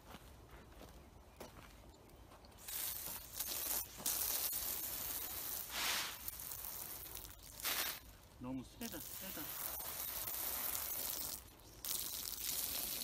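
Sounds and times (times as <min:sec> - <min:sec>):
hose spray hissing on soil: 0:02.5 - 0:13.0.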